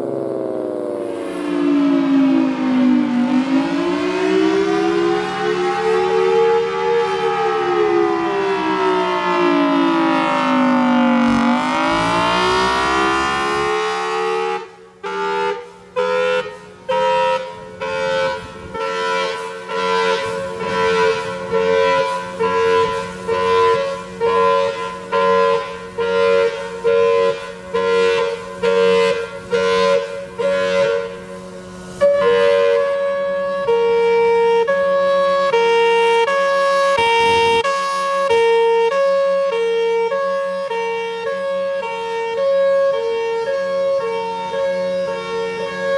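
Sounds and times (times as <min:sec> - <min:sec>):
siren-like wailing tone: 0:00.0 - 0:45.9.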